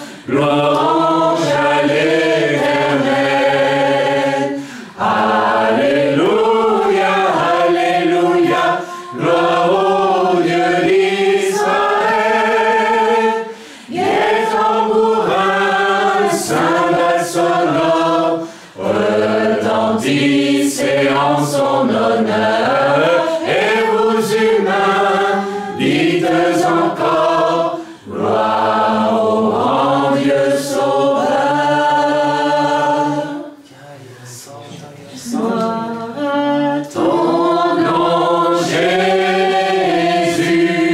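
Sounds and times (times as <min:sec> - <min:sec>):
group singing worship song: 0:00.0 - 0:40.9.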